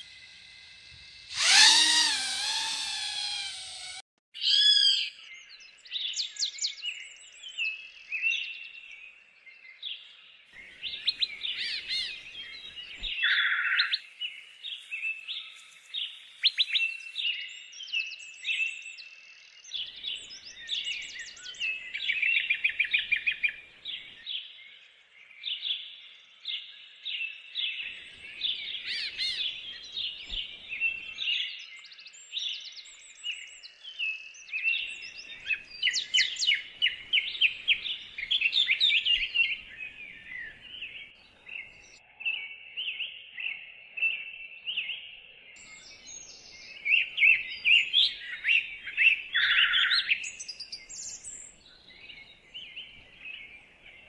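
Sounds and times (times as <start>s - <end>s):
songbirds singing: 4.4s - 54.0s.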